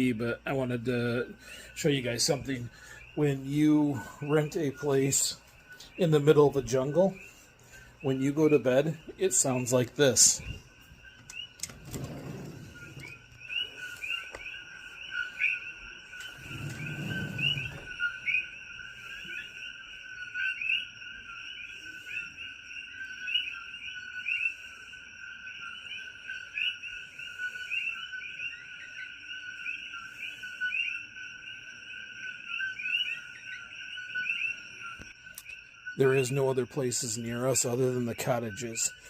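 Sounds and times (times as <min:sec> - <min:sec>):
coqui frogs calling: 0:00.0 - 0:39.0
high insect drone: 0:00.0 - 0:39.0.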